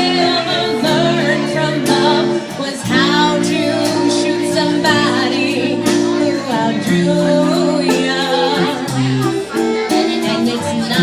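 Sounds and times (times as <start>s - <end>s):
guitar strummed chords: 0.0s - 11.0s
person singing with vibrato: 0.0s - 11.0s.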